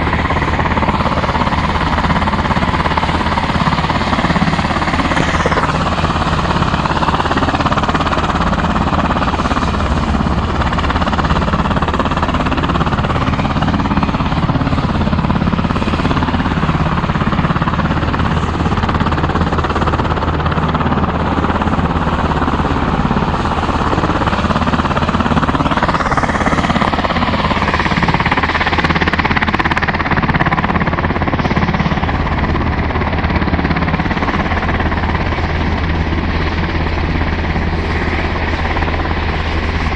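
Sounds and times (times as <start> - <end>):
helicopter rotor pulsing: 0.0 - 39.9
rising turbine whine: 0.0 - 39.9.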